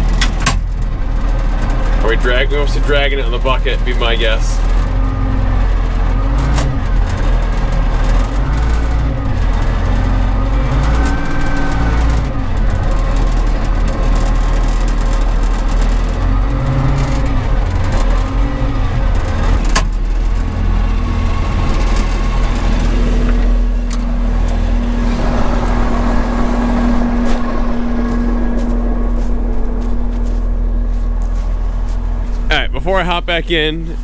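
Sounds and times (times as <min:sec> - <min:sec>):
diesel engine under load: 0:00.0 - 0:34.0
hydraulic whine: 0:00.0 - 0:34.0.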